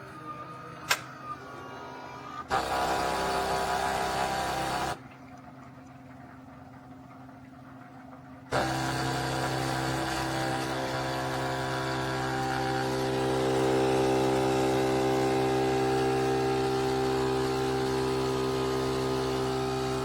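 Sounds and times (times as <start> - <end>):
espresso machine motor hum: 0.0 - 5.0, 8.5 - 20.0.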